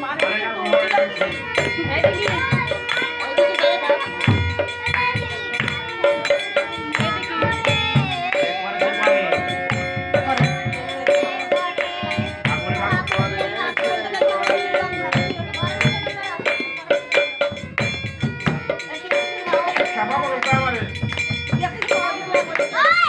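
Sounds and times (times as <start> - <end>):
boy singing: 0.0 - 23.0
hand drum beating: 0.0 - 23.0
held steady tones: 0.0 - 23.0.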